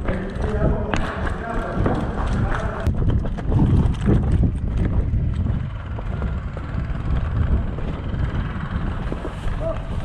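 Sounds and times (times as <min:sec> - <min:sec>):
footsteps: 0:00.0 - 0:08.0
heavy low rumble: 0:00.0 - 0:10.0.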